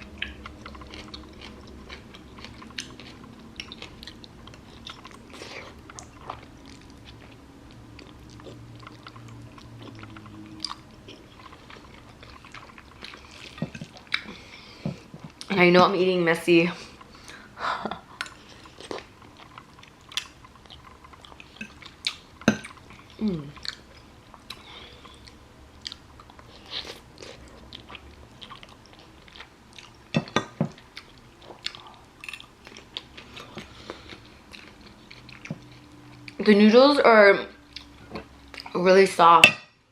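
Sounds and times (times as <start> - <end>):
person chewing noodles: 0.0 - 15.5, 16.8 - 36.4, 37.6 - 38.8.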